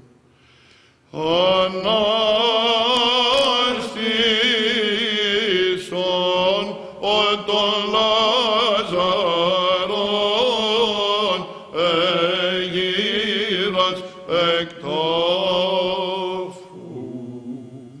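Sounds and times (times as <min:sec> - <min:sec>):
men chanting over a drone: 0:01.1 - 0:18.0.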